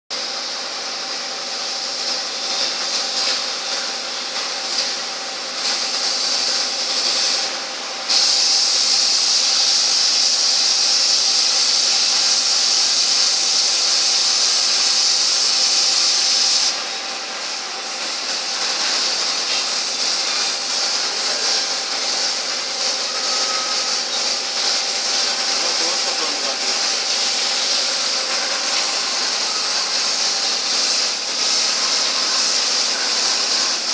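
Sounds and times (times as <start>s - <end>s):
airbrush hissing: 0.2s - 33.9s.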